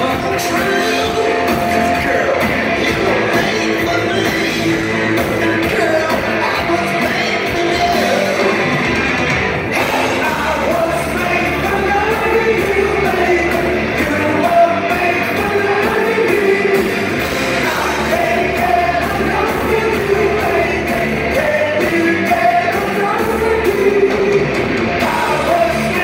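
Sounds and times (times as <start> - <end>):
man singing: 0.0 - 8.7, 9.7 - 26.0
electric guitars: 0.0 - 26.0
hard rock band playing: 0.0 - 26.0.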